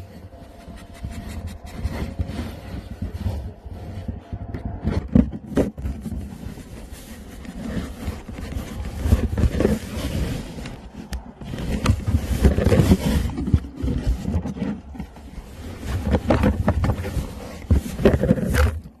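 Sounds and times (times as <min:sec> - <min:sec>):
scraping and rubbing on cardboard: 0:00.0 - 0:19.0.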